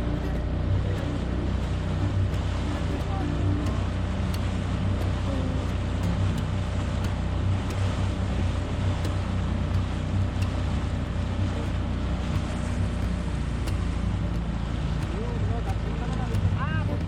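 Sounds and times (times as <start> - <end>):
outboard motor running: 0.0 - 17.0
water noise: 0.0 - 17.0
wind: 0.0 - 17.0.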